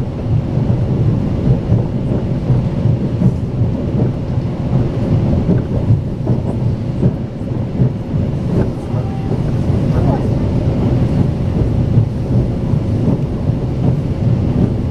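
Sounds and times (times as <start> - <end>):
train rumbling inside carriage: 0.0 - 14.9.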